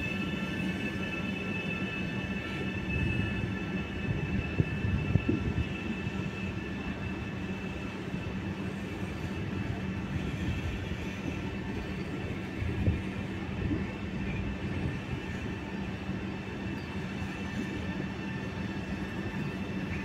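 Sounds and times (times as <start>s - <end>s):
electric train high whine: 0.0s - 20.0s
wheels rumbling on rail: 0.0s - 20.0s.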